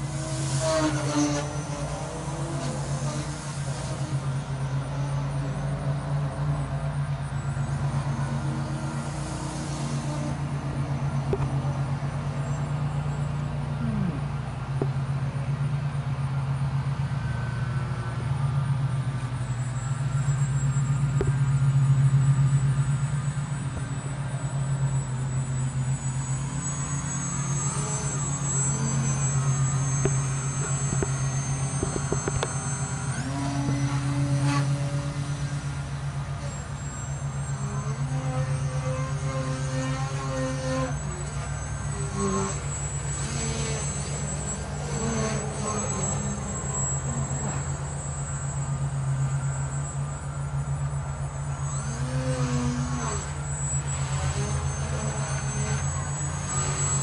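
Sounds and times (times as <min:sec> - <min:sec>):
model plane electric motor buzzing: 0:00.0 - 0:57.0.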